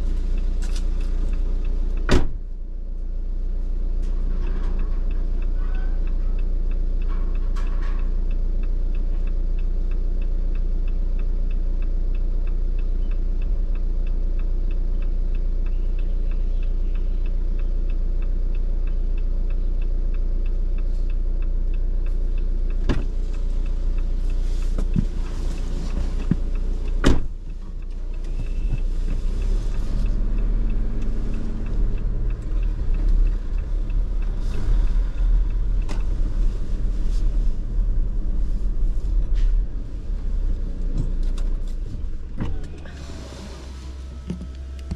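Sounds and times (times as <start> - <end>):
faint regular ticking: 0.0 - 42.4
car engine and road drone: 0.0 - 44.9.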